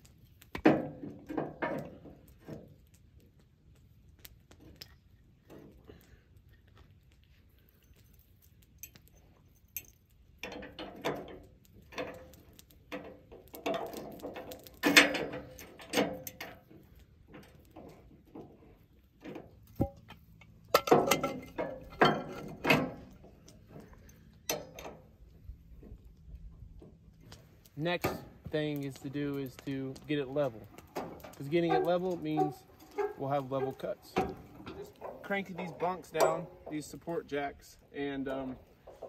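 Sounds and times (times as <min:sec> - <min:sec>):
metal jacks clicking and clanking: 0:00.5 - 0:02.8, 0:08.8 - 0:26.0, 0:26.8 - 0:39.0.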